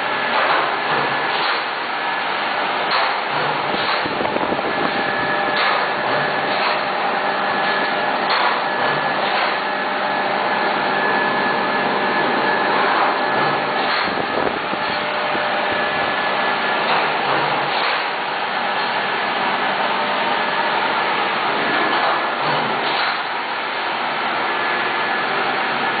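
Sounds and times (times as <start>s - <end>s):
machine blower noise: 0.0s - 26.0s.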